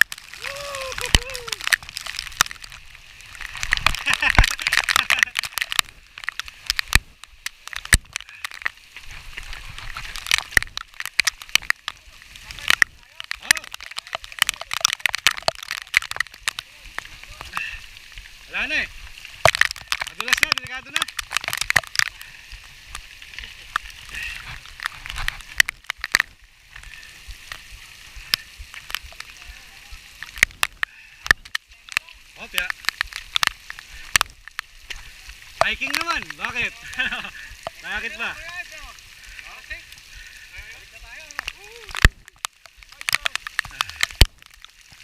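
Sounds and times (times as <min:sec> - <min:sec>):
faint rain hiss: 0:00.0 - 0:45.0
raindrops tapping: 0:00.0 - 0:45.0.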